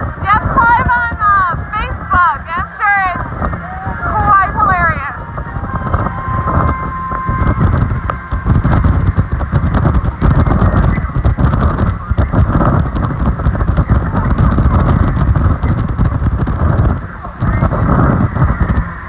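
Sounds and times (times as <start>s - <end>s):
boat engine and spray rumble: 0.0s - 19.0s
wind buffeting microphone: 0.0s - 19.0s.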